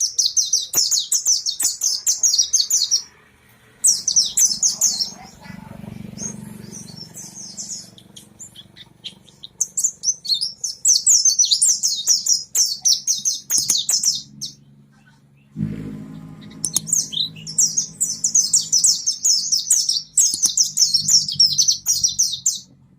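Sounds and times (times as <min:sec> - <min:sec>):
bird chattering warble: 0:03.8 - 0:22.7.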